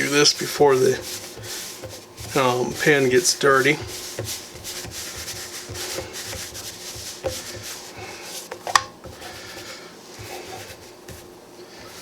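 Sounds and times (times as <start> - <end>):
tortillas scraping in dry skillet: 0.0 - 12.0.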